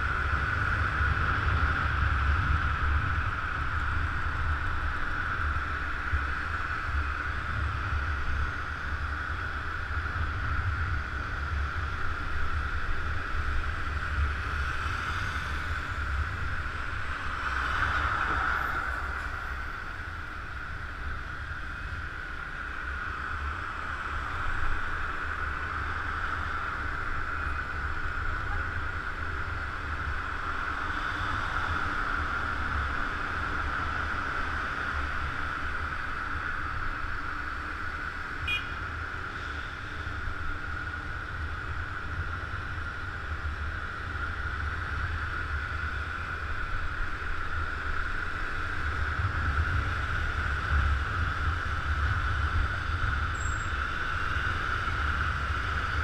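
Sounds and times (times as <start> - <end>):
constant high hum: 0.0 - 56.0.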